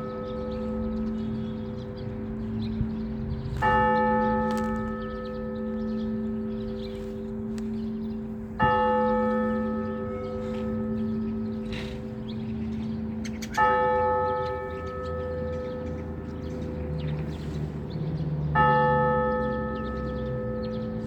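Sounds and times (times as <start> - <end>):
church bell tolling: 0.0 - 21.0.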